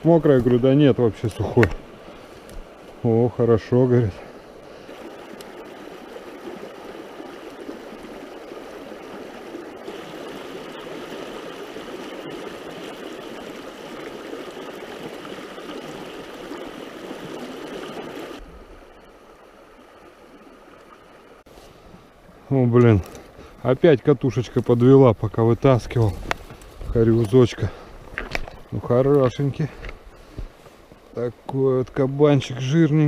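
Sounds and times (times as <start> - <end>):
river water running over shallows: 0.0 - 33.0.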